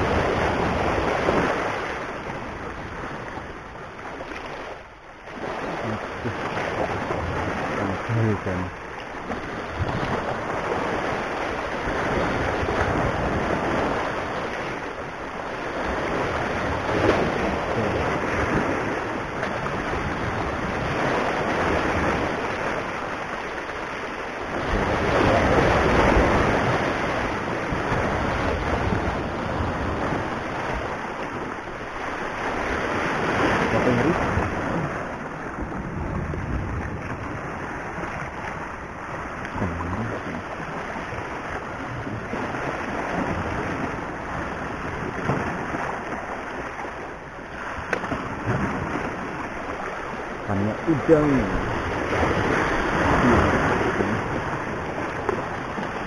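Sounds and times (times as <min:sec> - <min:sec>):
sea waves breaking over rocks: 0:00.0 - 0:56.0.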